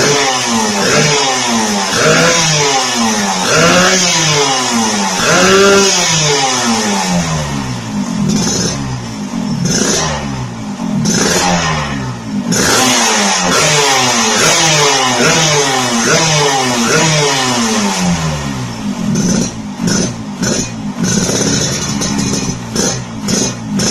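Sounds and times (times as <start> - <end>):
two-stroke motorcycle engine revving: 0.0 - 23.9.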